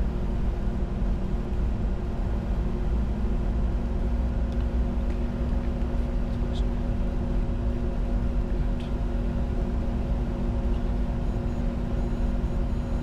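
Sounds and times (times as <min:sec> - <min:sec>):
steady hum tones: 0:00.0 - 0:13.0.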